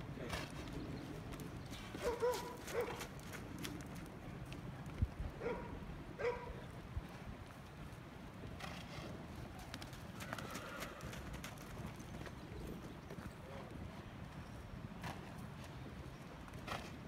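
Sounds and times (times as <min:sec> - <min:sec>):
horse hoofbeats on soft dirt: 0:00.0 - 0:17.0.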